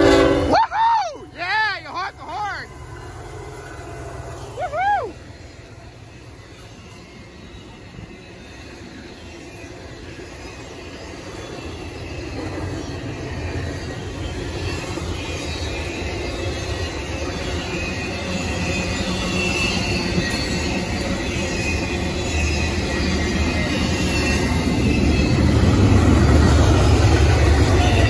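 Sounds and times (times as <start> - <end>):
high wheel squeal: 0.0 - 28.0
freight train wheels clattering: 5.3 - 28.0.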